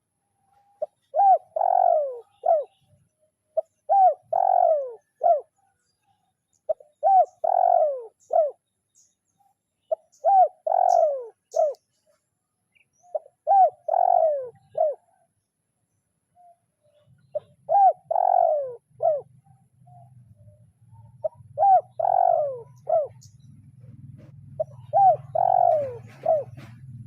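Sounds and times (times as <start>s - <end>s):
dove cooing: 0.6s - 5.7s, 6.6s - 8.7s, 9.8s - 11.8s, 13.0s - 15.4s, 16.4s - 27.0s.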